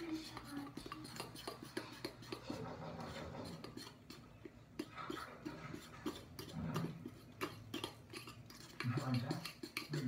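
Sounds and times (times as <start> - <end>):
utensil clicking against bowl: 0.0 - 2.6, 3.4 - 10.0
soft wet batter mixing: 0.0 - 10.0.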